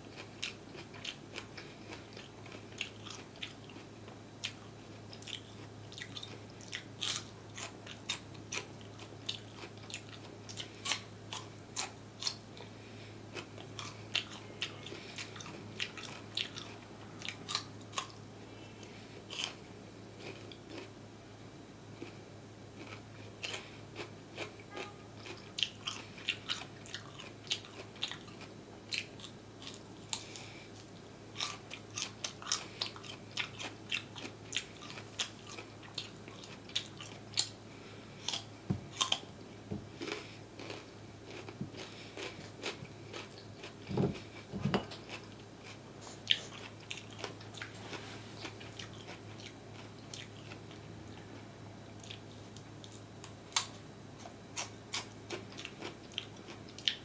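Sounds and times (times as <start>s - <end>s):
crunching and chewing food: 0.0s - 57.0s
faint steady hum: 0.0s - 57.0s.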